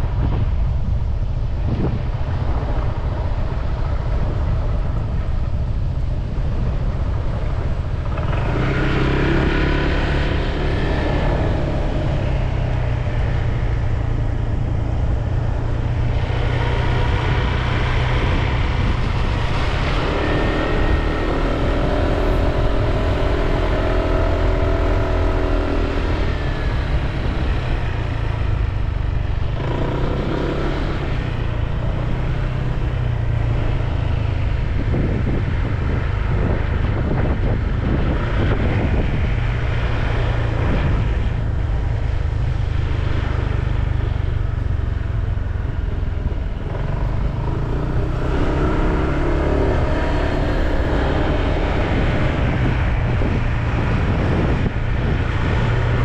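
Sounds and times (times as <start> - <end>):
road noise: 0.0 - 56.0
wind rumble on microphone: 0.0 - 56.0.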